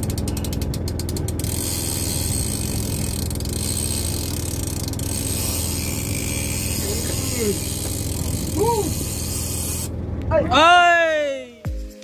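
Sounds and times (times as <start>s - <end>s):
fishing reel ratcheting: 0.0s - 9.9s
steady low hum: 0.0s - 10.6s.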